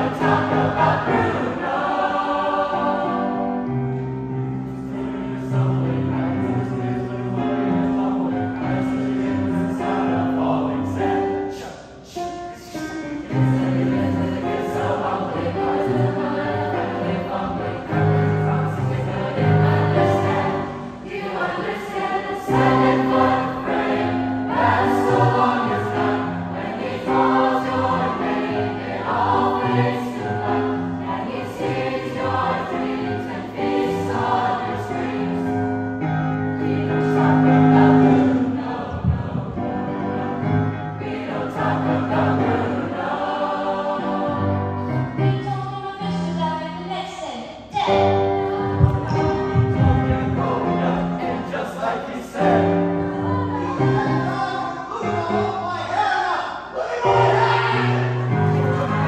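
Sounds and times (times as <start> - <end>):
choir singing in parts: 0.0 - 46.8, 47.7 - 59.0.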